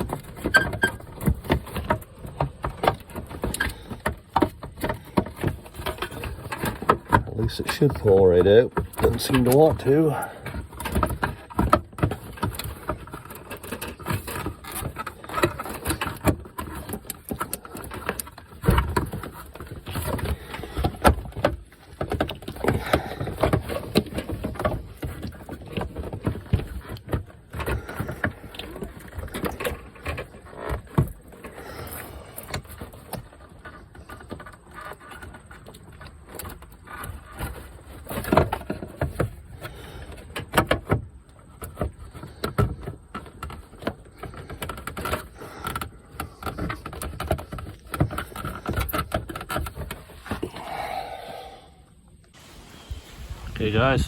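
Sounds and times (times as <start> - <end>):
plastic knocking and scraping: 0.0 - 50.9.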